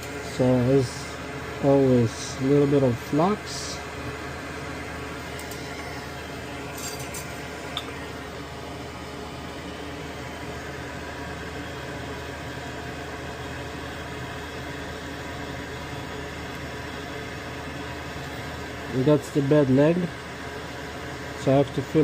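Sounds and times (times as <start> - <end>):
fan whirring: 0.0 - 22.0.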